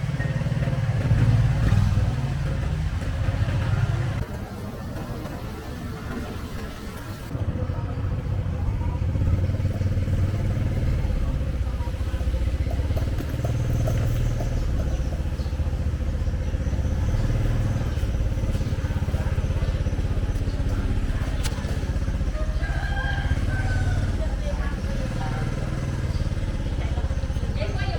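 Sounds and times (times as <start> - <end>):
small motorcycle engine running: 0.0 - 27.9.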